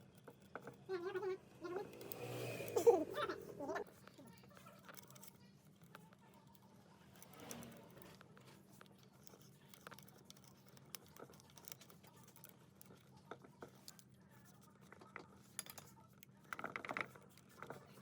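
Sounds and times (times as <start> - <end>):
faint clicks and taps: 0.0 - 1.3, 3.8 - 18.0.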